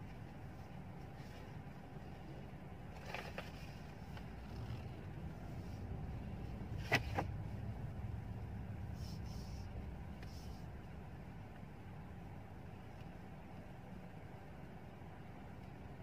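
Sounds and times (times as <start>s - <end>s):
car cabin hum: 0.0s - 16.0s.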